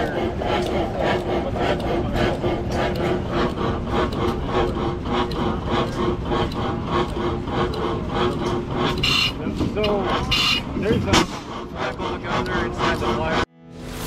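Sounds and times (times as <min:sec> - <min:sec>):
stationary engine clattering: 0:00.0 - 0:14.0.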